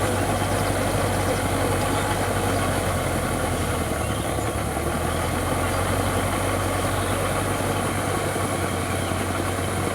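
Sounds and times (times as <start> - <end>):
tractor diesel engine running: 0.0 - 9.9.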